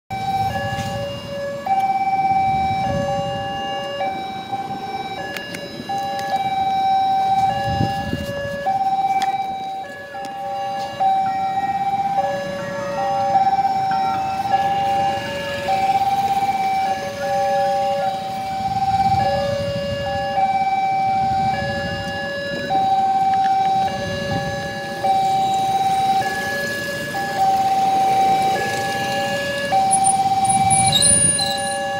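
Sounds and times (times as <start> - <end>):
level crossing alarm: 0.1 - 31.9.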